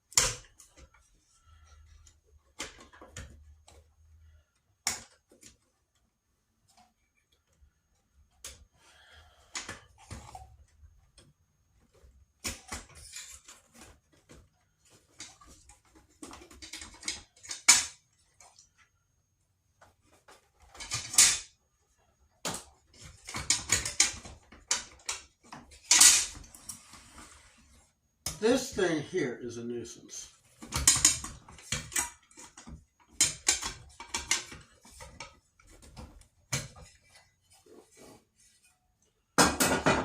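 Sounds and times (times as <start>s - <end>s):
clicks and knocks of parts: 0.0s - 19.0s, 19.8s - 28.8s, 30.2s - 37.7s.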